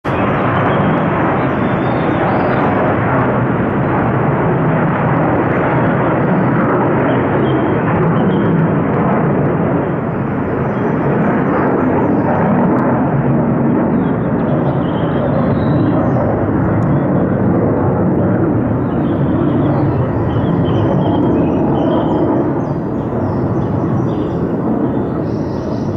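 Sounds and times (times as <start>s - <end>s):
jet engine roar: 0.0s - 25.9s.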